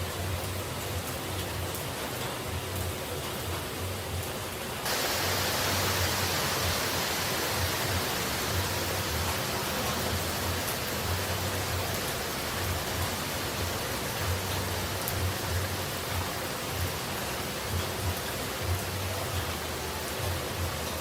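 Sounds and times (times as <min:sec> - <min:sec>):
rushing falling water: 0:00.0 - 0:21.0.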